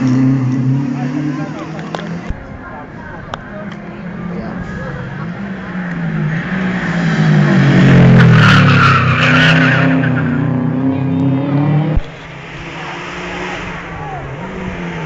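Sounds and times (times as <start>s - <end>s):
car engine revving: 0.0s - 3.0s, 3.8s - 15.0s.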